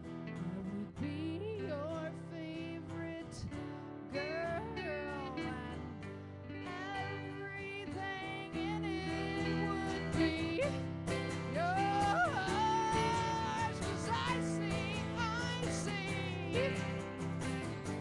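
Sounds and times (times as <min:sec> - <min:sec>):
electric guitar: 0:00.0 - 0:18.0
strummed acoustic guitar: 0:00.0 - 0:18.0
woman singing: 0:00.0 - 0:18.0.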